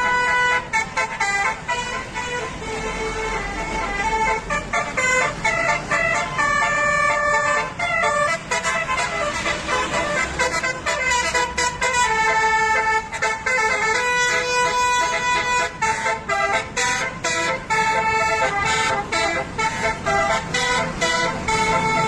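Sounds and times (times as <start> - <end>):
multi-tone air horn tune: 0.0 - 22.0.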